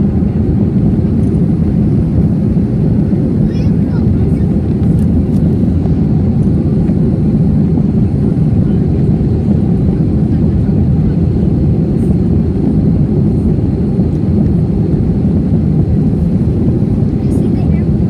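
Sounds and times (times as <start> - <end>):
aircraft engine rumble: 0.0 - 18.0
rushing air: 0.0 - 18.0.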